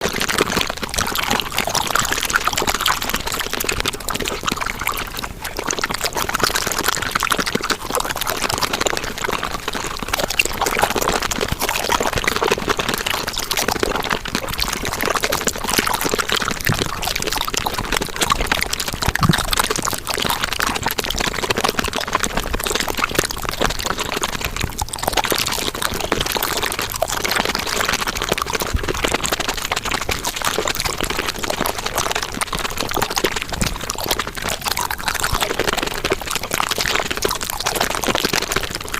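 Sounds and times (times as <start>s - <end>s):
chewing and mouth noises: 0.0s - 38.9s.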